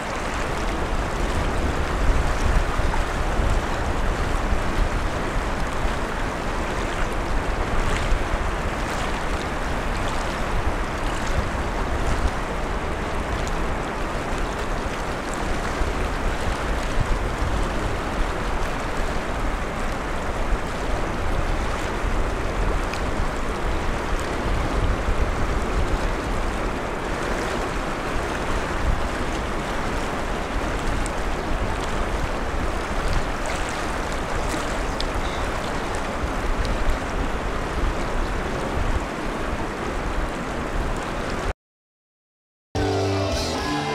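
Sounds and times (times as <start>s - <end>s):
rushing water: 0.0s - 41.5s
wind: 0.0s - 41.5s
wind rumbling on microphone: 0.0s - 41.5s.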